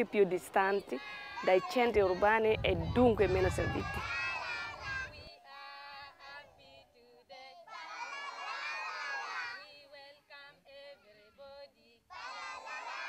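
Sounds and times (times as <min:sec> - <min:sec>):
young children singing: 0:00.8 - 0:10.9, 0:12.1 - 0:13.0.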